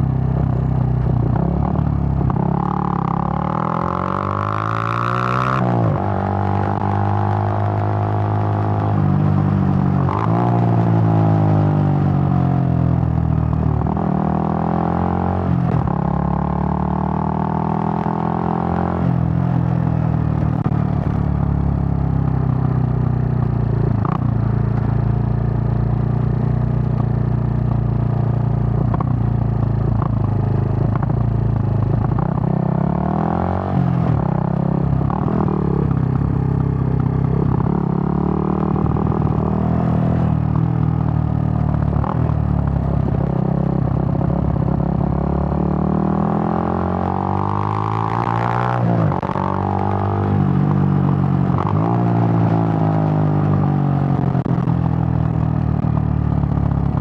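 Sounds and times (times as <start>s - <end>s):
motorcycle engine shifting gears: 0.1s - 57.0s.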